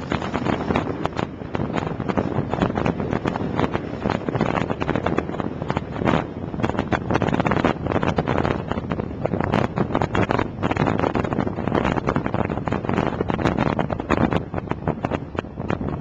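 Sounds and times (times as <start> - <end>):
motorcycle engine: 0.0 - 15.7
road noise: 0.0 - 16.0
wind buffeting microphone: 0.0 - 16.0.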